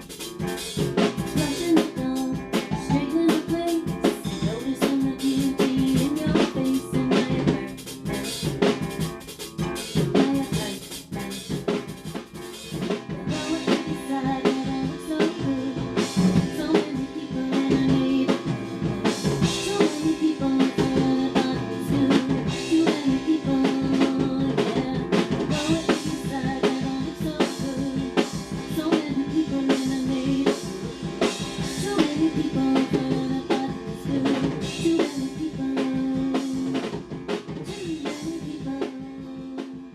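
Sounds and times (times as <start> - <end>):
drum kit rock beat: 0.0 - 39.9.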